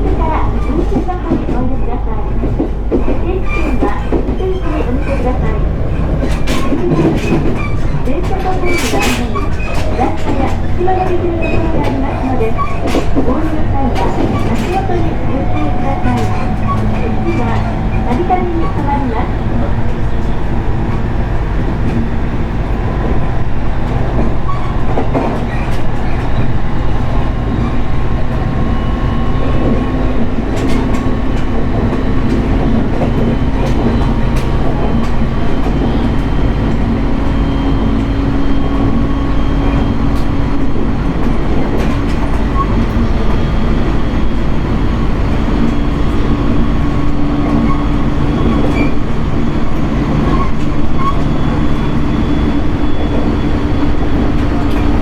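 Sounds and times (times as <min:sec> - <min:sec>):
train rumble and hum: 0:00.0 - 0:55.0
wheels clicking over rails: 0:00.0 - 0:55.0.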